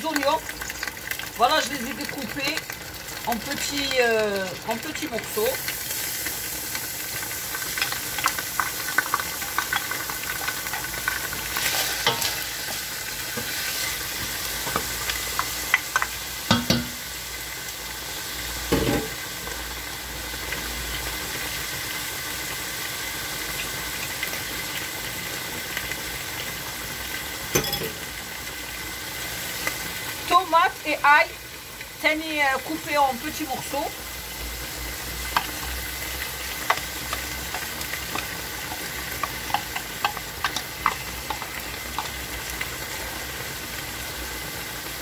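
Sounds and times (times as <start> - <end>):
oil sizzling in a pot: 0.0 - 45.0.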